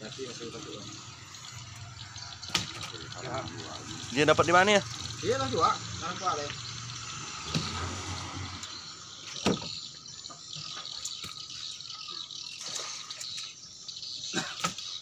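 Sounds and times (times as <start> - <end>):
water splashing and dripping: 0.0 - 15.0.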